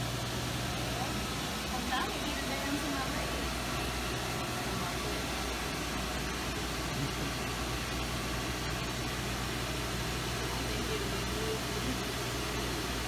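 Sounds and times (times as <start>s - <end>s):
constant low hum: 0.0s - 13.0s
water jet pump whirring: 0.0s - 13.0s.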